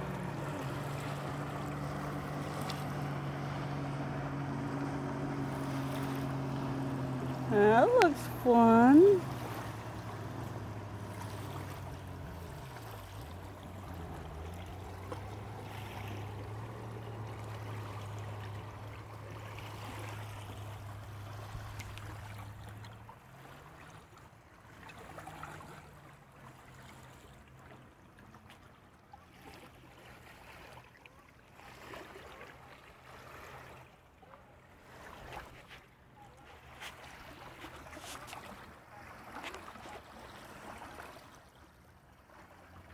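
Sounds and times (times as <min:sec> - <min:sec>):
jet ski engine droning: 0:00.0 - 0:42.9
small waves lapping: 0:00.0 - 0:42.9.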